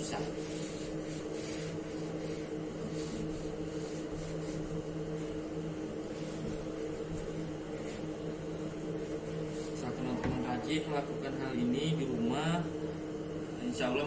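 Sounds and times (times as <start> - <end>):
cloth wiping machine: 0.0 - 14.0
mechanical hum: 0.0 - 14.0.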